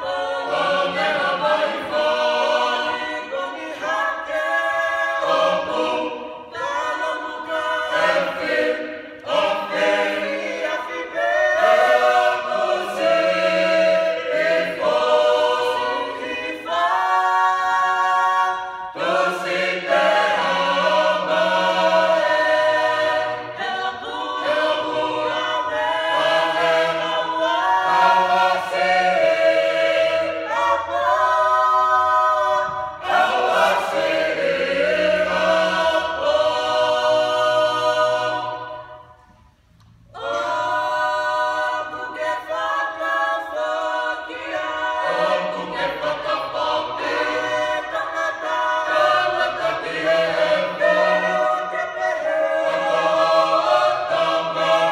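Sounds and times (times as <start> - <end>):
choir singing a hymn unaccompanied: 0.0 - 54.9.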